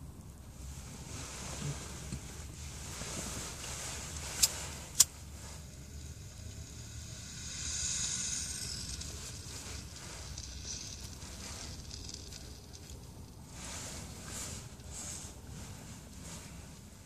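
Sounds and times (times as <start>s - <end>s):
air drawn through glass pipe: 0.6s - 17.0s.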